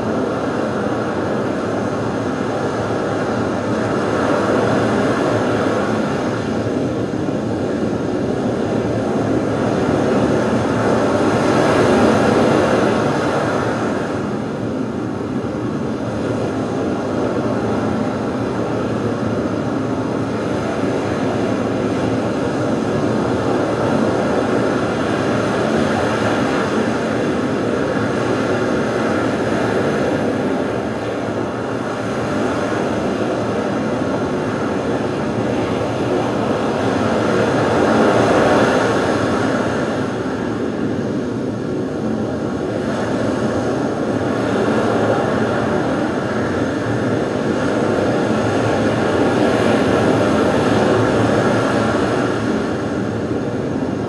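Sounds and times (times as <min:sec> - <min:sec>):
rumbling noise drone: 0:00.0 - 0:54.0.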